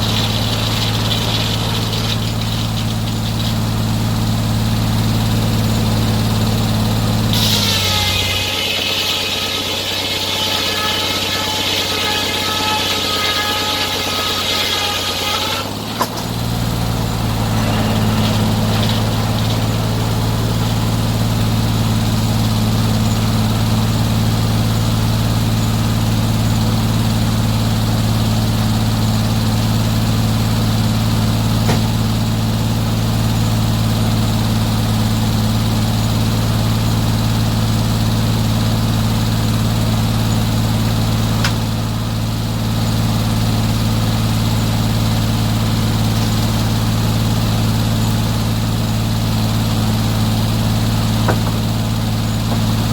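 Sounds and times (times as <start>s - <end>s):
engine running: 0.0s - 52.9s.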